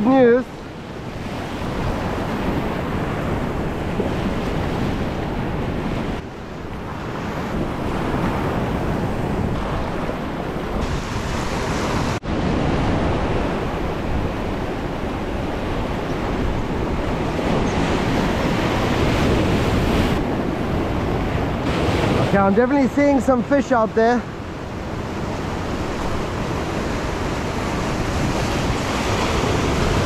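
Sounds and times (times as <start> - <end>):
ocean surf washing: 0.0 - 30.0
wind buffeting the microphone: 0.0 - 30.0.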